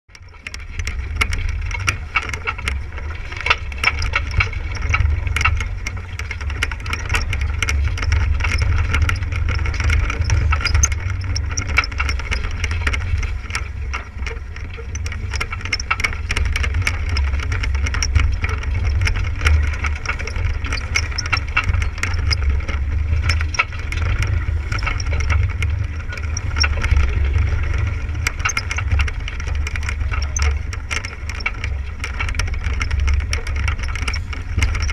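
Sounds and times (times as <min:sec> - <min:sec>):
small clicks and knocks: 0:00.1 - 0:34.9
water splashing along hull: 0:00.2 - 0:34.9.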